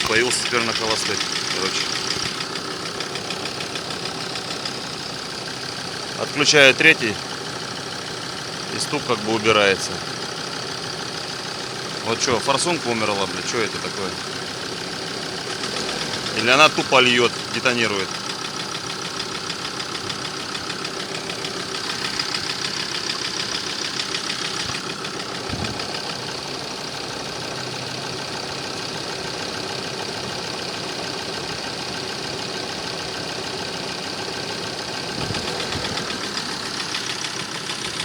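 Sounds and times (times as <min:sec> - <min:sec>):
van engine idling with knock: 0:00.0 - 0:38.0.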